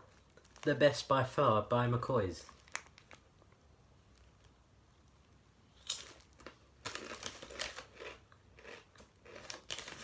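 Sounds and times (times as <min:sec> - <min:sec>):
plastic crisp packet crinkling: 0:00.0 - 0:04.6, 0:05.8 - 0:10.0.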